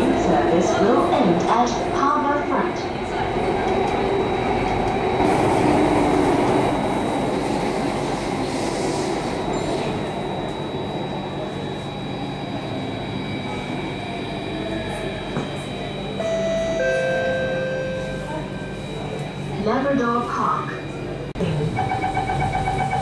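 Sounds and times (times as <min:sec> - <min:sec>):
train rumbling in tunnel: 0:00.0 - 0:23.0.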